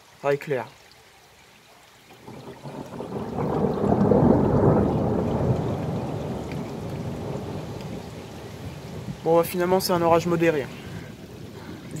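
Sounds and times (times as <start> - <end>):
low rumble of thunder: 2.2 - 12.0.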